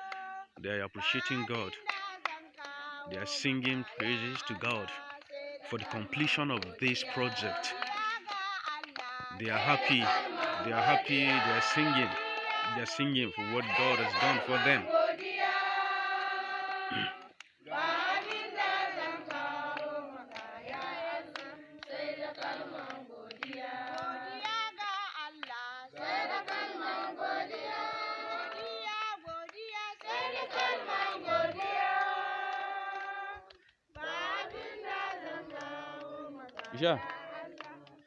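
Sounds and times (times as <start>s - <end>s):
group of voices singing: 0.0s - 38.0s.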